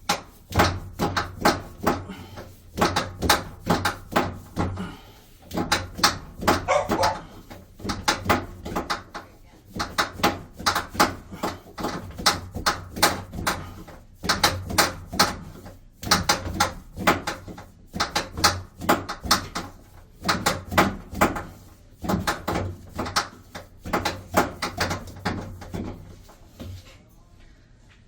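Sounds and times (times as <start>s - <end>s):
knocks and clatters: 0.0s - 26.9s.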